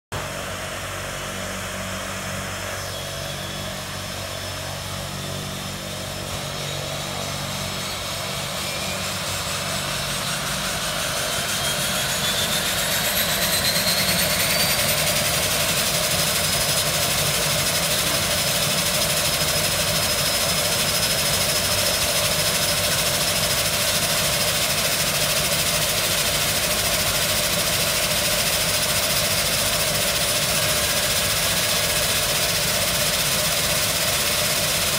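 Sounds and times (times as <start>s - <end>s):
propeller noise: 0.1s - 34.9s
turboprop engine starting up: 0.2s - 34.9s.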